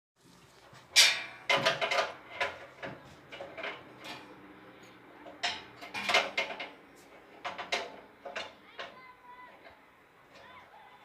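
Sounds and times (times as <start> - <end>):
hard objects knocking and clattering: 0.8 - 4.5, 5.2 - 10.6.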